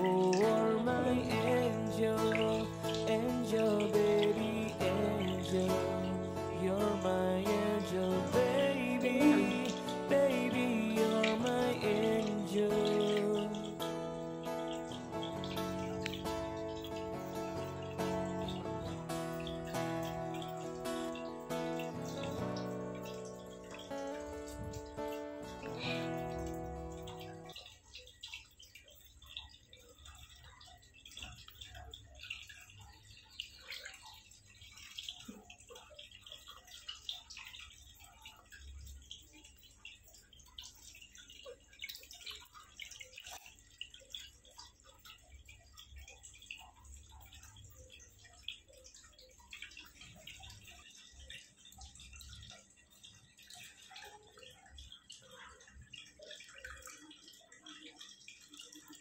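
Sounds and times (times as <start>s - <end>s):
water splashing and dripping in tub: 0.0s - 59.0s.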